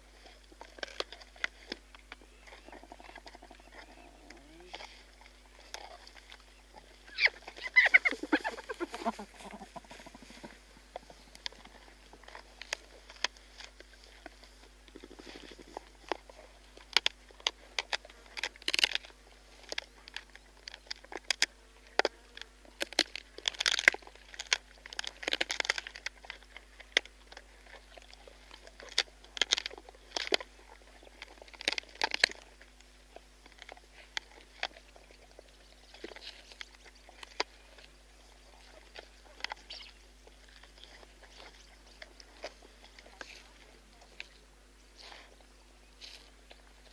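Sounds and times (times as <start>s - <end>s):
hyaena crunching bones: 0.0s - 46.9s.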